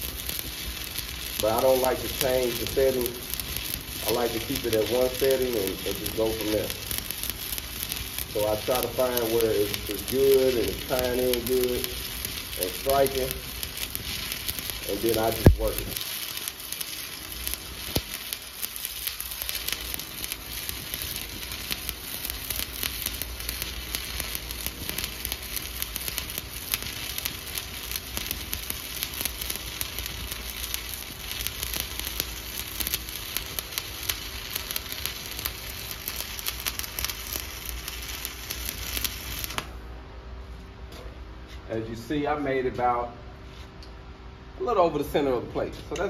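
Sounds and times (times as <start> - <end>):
welding arc crackling and sizzling: 0.0 - 39.9.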